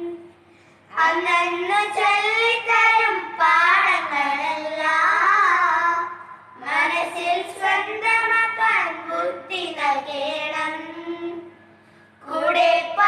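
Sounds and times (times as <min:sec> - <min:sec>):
children singing unaccompanied: 0:00.9 - 0:11.5, 0:12.2 - 0:13.0.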